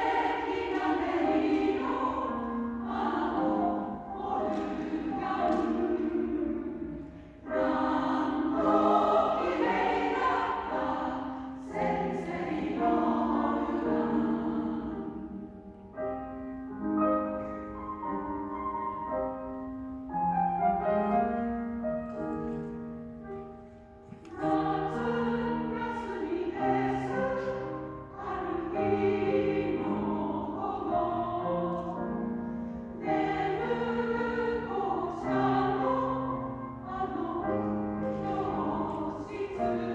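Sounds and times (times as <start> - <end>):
choir singing: 0.0 - 16.4, 24.1 - 39.9
piano accompaniment: 0.0 - 39.9.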